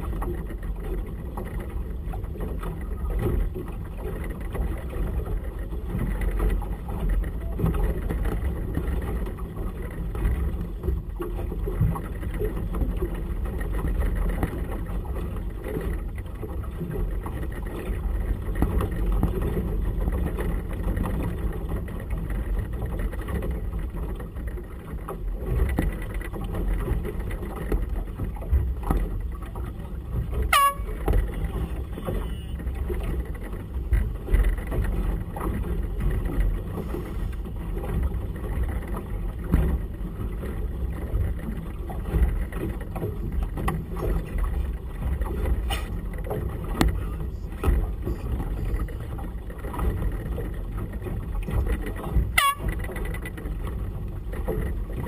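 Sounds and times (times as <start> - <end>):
choppy water: 0.0 - 55.0.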